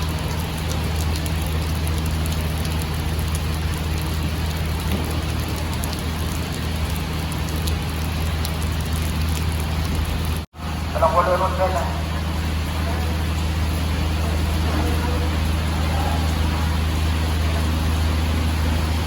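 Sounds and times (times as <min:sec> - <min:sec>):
engine humming: 0:00.0 - 0:19.0
rain hissing: 0:00.0 - 0:19.0.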